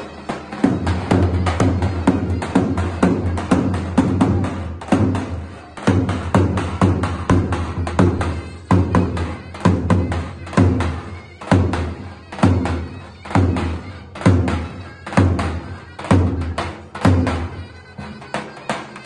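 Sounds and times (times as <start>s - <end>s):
shrill reed pipe folk tune: 0.0s - 19.0s.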